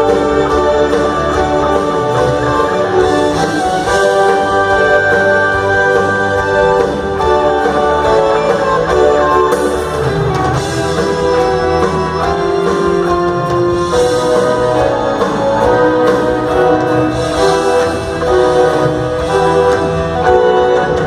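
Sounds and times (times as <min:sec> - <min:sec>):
drums: 0:00.0 - 0:21.0
electric guitar: 0:00.0 - 0:21.0.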